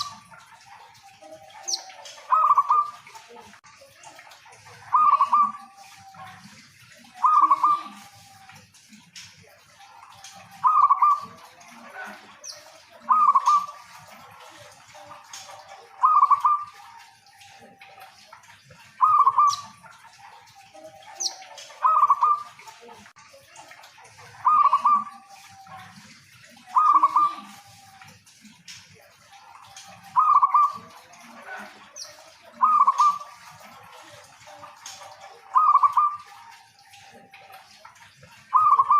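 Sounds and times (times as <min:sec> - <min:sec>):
dove cooing: 0:00.0 - 0:03.3, 0:04.7 - 0:08.5, 0:09.8 - 0:18.0, 0:18.9 - 0:22.7, 0:24.3 - 0:28.0, 0:29.4 - 0:37.6, 0:38.4 - 0:38.9.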